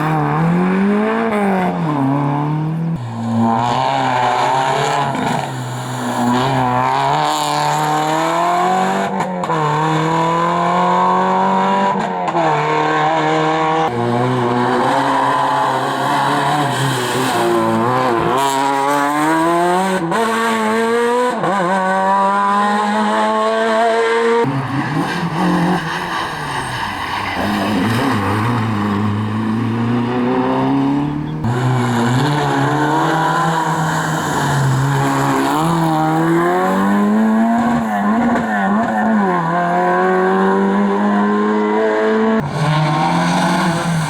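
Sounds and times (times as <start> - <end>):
rally car engine accelerating: 0.0 - 44.0.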